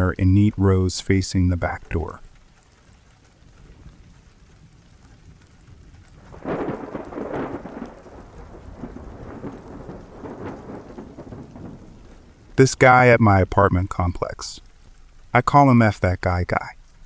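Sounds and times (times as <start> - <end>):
rain: 0.0 - 17.0
thunder rumbling: 1.5 - 15.3.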